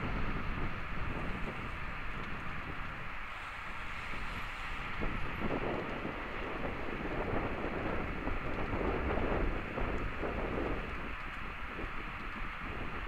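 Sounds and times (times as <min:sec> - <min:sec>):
bike tyres rolling on asphalt: 0:00.0 - 0:13.0
wind buffeting microphone: 0:00.0 - 0:13.0.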